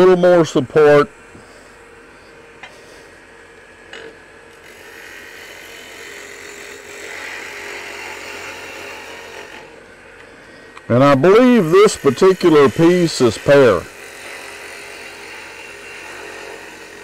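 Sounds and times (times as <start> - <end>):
lathe humming: 0.0 - 17.0.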